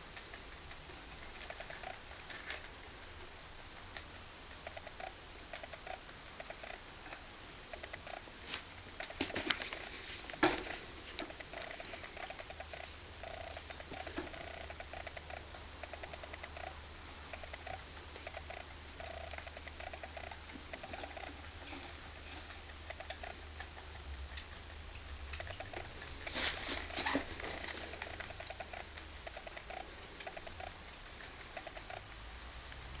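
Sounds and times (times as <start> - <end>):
rabbit chewing hay: 0.0 - 33.0.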